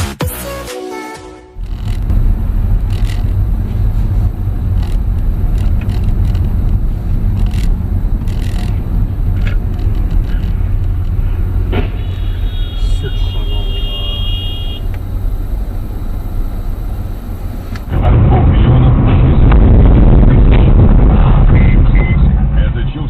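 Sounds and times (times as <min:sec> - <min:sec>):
car driving rumble: 0:01.6 - 0:23.0.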